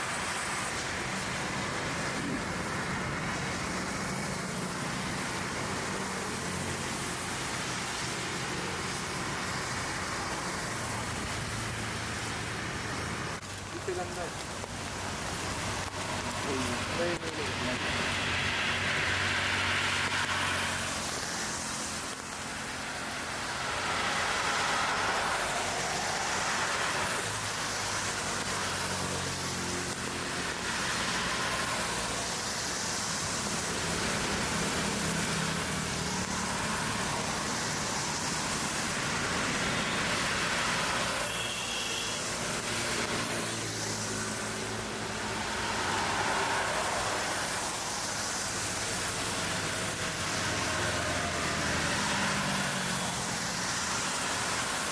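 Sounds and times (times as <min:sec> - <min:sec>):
steady traffic roar: 0:00.0 - 0:54.9
vehicles passing: 0:00.0 - 0:54.9.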